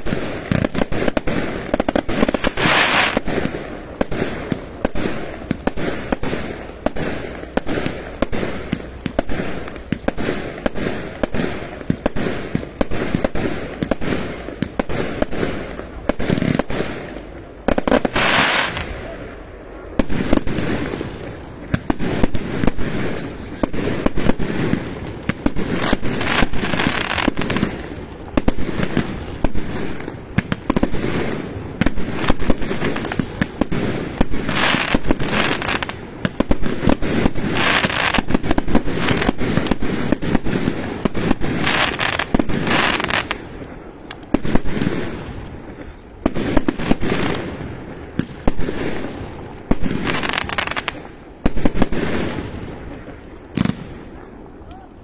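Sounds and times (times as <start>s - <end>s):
firecrackers popping: 0.0s - 55.0s.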